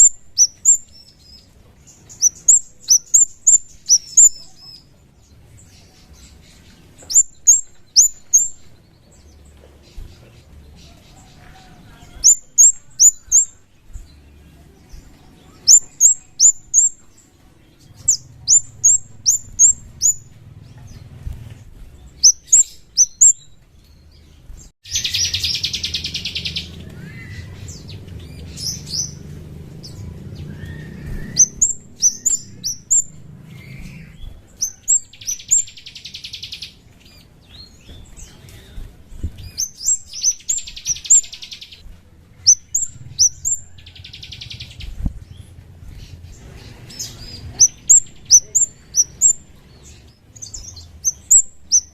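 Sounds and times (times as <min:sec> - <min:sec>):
bird chirping sharply: 0:00.0 - 0:05.0, 0:05.7 - 0:10.2, 0:10.8 - 0:21.1, 0:22.0 - 0:24.2, 0:24.8 - 0:38.1, 0:39.4 - 0:41.8, 0:42.4 - 0:44.9, 0:46.2 - 0:51.9.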